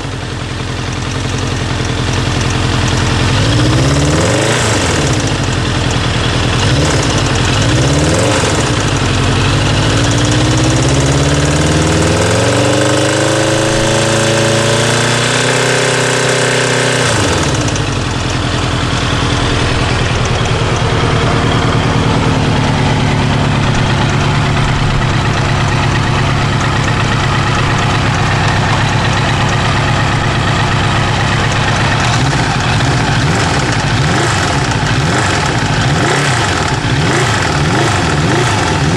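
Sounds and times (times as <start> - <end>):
engine hammering: 0.0 - 38.9
motorcycle engine revving: 0.0 - 38.9.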